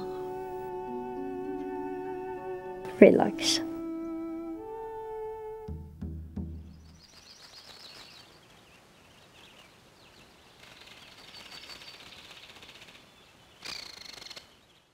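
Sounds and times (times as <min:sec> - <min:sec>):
birds chirping faintly: 0:00.0 - 0:05.7, 0:06.4 - 0:14.9.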